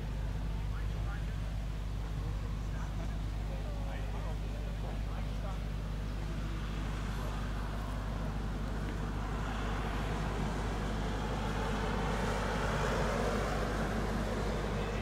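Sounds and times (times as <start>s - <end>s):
jet engines rumbling at low power: 0.0s - 15.0s.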